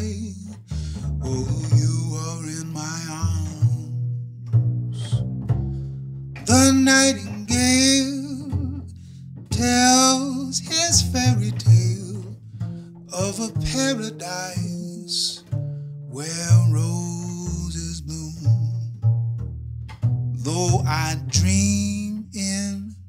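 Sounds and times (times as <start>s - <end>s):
plucked double bass: 0.0s - 23.0s
slide resonator guitar melody: 0.0s - 23.0s.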